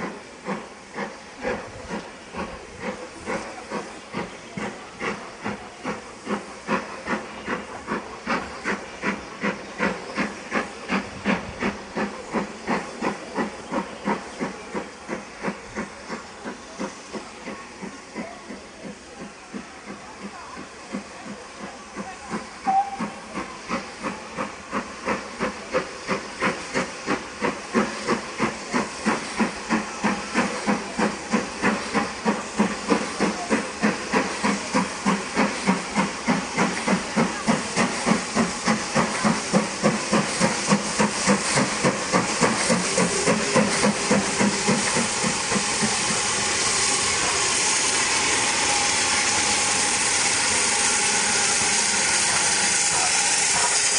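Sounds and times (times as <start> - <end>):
loud steam hiss: 0.0 - 53.9
steam locomotive chuffing: 0.0 - 53.9.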